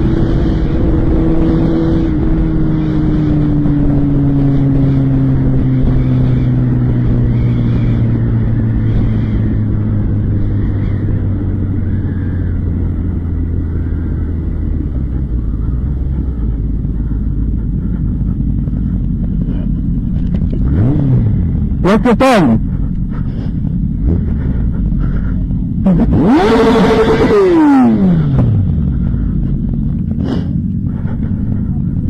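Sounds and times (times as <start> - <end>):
motorcycle engine decelerating: 0.0 - 32.0.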